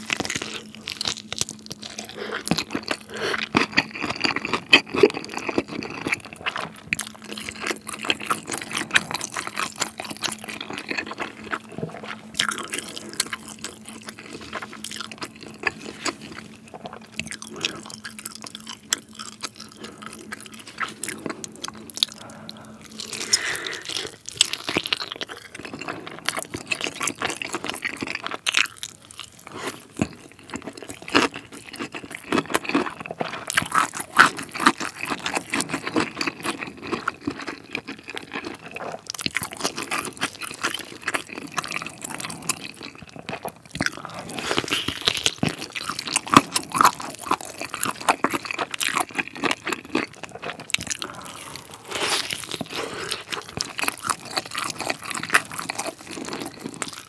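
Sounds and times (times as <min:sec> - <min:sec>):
chewing and biting chicken: 0:00.0 - 0:57.0
faint low hum: 0:00.0 - 0:57.0.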